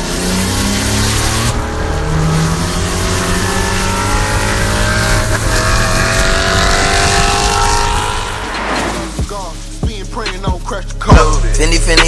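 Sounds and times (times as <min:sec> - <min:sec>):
car engine at full throttle: 0:00.0 - 0:09.8.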